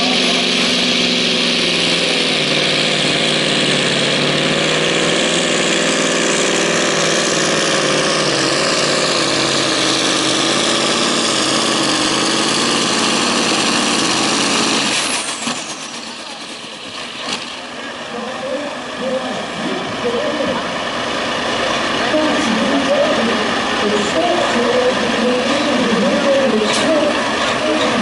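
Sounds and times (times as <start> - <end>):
truck engine running hard: 0.0 - 28.0.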